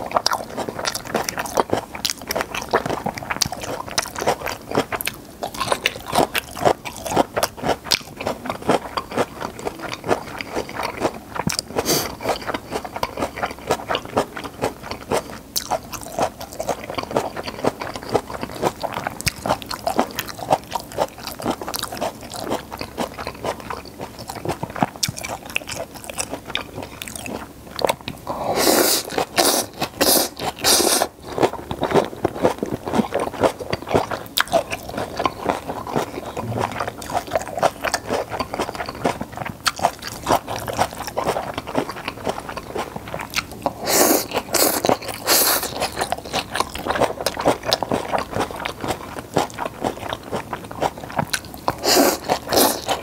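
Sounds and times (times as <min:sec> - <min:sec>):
wet chewing mouth sounds: 0:00.0 - 0:53.0.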